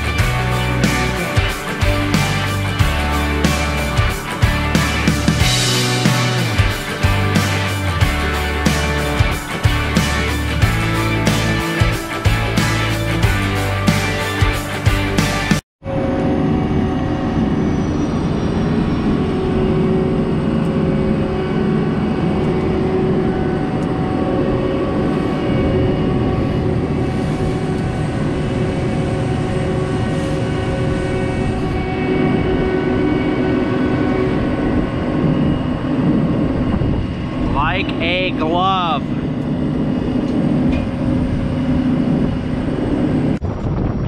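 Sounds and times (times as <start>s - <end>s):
combine engine drone: 0.0s - 44.0s
threshing machinery rumble: 0.0s - 44.0s
whining drive tones: 0.0s - 44.0s.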